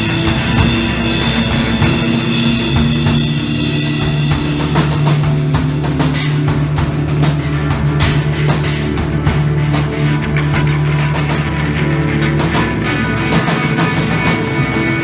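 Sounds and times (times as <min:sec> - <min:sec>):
drum kit with cymbals: 0:00.0 - 0:15.0
electric guitar: 0:00.0 - 0:15.0
held low bass note: 0:00.0 - 0:15.0.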